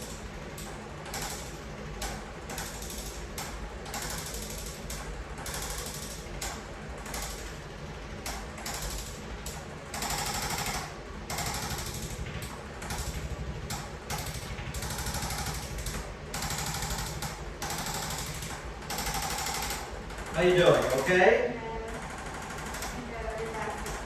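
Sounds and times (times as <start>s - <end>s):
electric percussion massager hammering: 0.0s - 24.0s.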